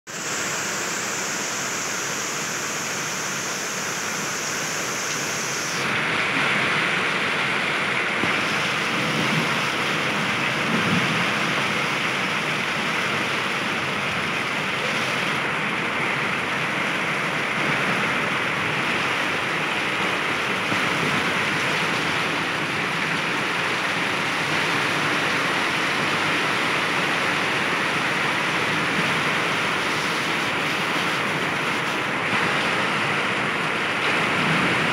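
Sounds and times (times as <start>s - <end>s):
hail and rain pelting ground: 6.0s - 34.9s.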